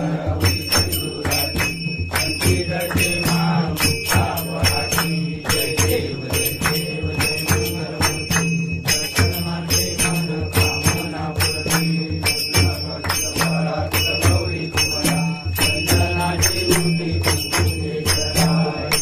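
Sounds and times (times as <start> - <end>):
devotional music with jingling beat: 0.0 - 19.0.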